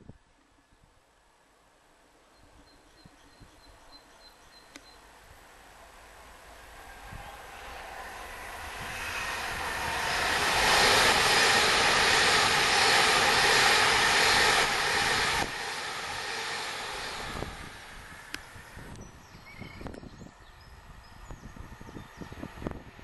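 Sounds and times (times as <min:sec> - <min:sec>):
electric train passing at speed: 0:01.6 - 0:23.0
wheels rushing on rail: 0:02.5 - 0:23.0.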